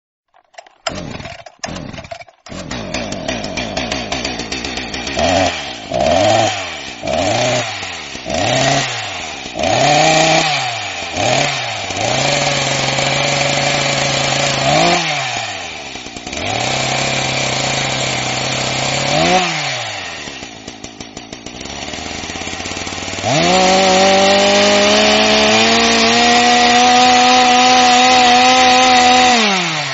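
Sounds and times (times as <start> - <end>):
chainsaw engine revving: 0.4 - 29.9.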